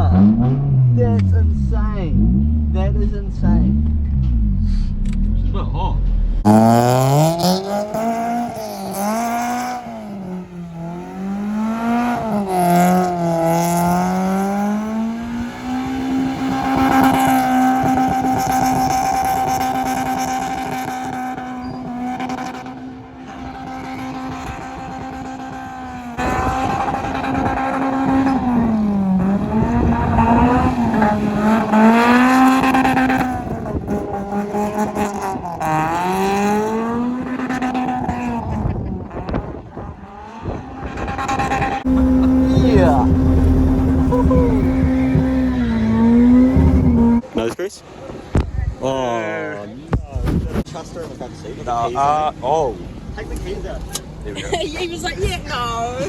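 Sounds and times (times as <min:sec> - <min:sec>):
car engine revving: 0:00.0 - 0:47.4.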